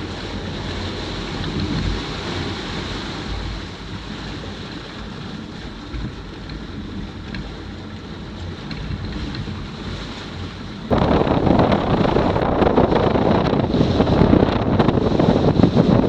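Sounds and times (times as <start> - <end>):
low rushing rumble: 0.0 - 16.0
sea noise: 0.0 - 16.0
wind: 0.0 - 16.0
wind buffeting microphone: 0.0 - 16.0.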